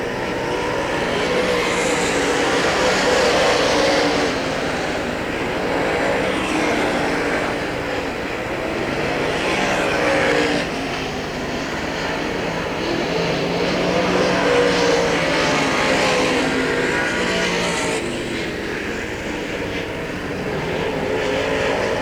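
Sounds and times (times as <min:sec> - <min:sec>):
race car engines at speed: 0:00.0 - 0:22.0.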